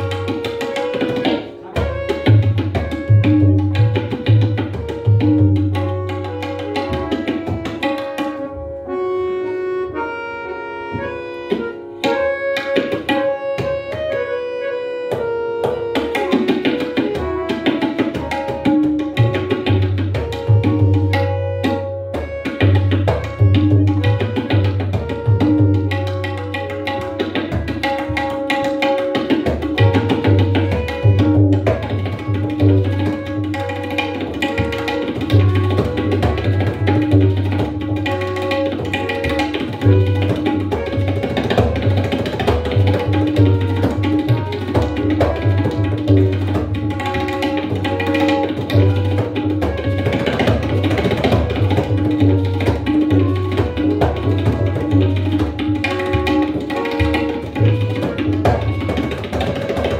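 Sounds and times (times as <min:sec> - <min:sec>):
tabla drumming: 0:00.0 - 0:08.9, 0:10.9 - 0:14.4, 0:15.0 - 0:59.9.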